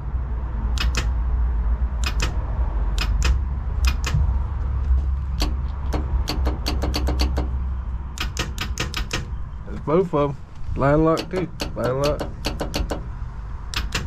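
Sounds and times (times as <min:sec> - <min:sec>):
steady low rumble: 0:00.0 - 0:14.0
solenoids clicking: 0:00.7 - 0:01.2, 0:02.0 - 0:09.9, 0:10.7 - 0:14.0.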